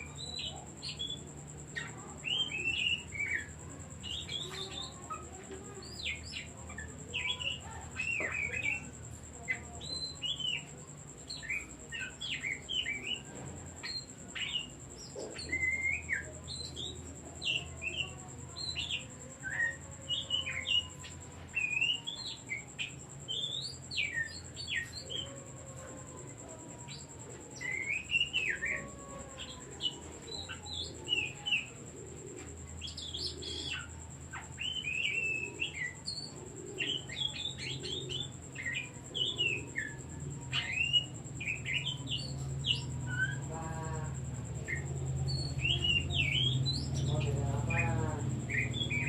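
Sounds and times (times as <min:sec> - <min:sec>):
bird singing whistled chirps: 0:00.0 - 0:49.0.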